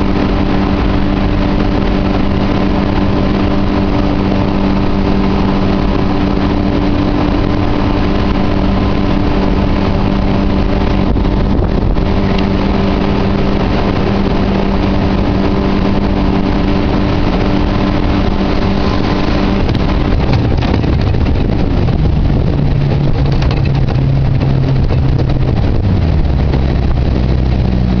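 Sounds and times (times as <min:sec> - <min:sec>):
jet boat engine running: 0:00.0 - 0:28.0.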